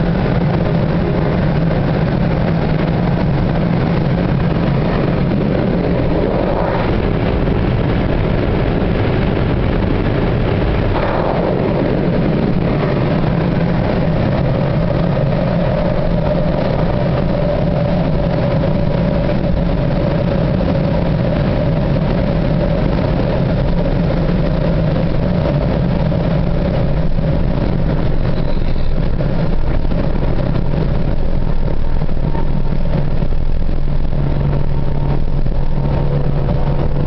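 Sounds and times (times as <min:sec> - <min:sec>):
road and tyre noise: 0:00.0 - 0:37.0
truck diesel engine running: 0:00.0 - 0:37.0.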